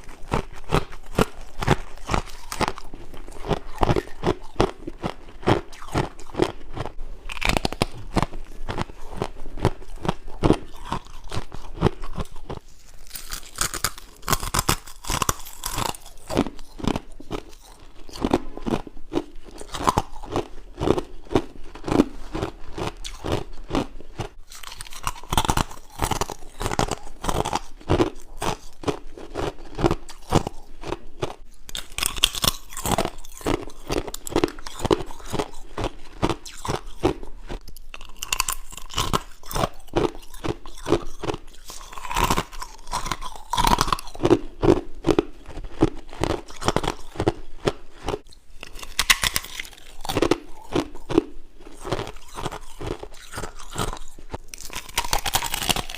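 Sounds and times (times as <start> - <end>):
person crunching ice: 0.0 - 55.9.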